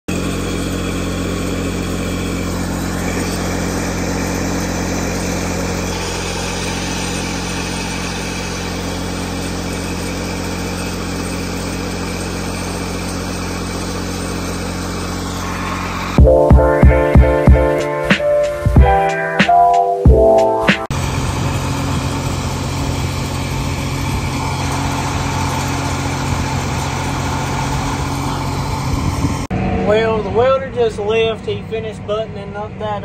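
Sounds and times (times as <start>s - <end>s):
engine idling: 0.1s - 19.3s, 20.1s - 33.0s.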